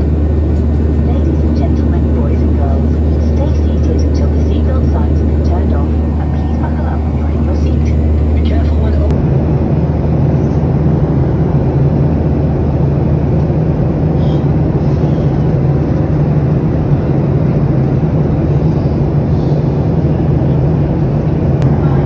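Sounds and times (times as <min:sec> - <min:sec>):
airliner cabin engine drone: 0:00.0 - 0:22.0
constant low hum: 0:00.0 - 0:22.0.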